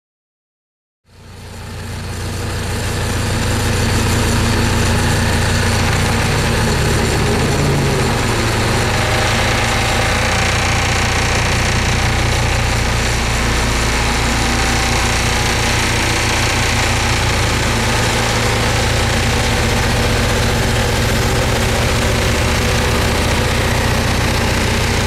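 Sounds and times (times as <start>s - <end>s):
road roller diesel engine: 1.1s - 25.0s.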